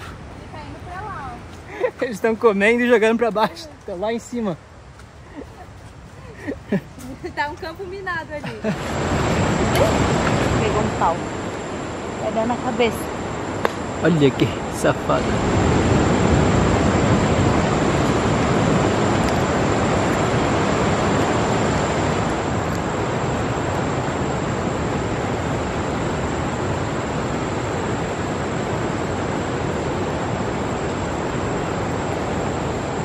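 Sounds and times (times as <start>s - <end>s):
high steady whine: 0.0s - 33.0s
heavy surf rushing: 6.0s - 33.0s.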